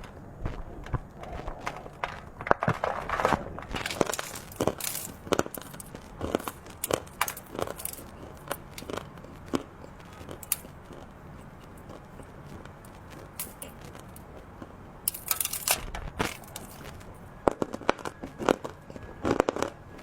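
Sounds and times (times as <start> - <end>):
crunching and chewing treats: 0.0 - 20.0.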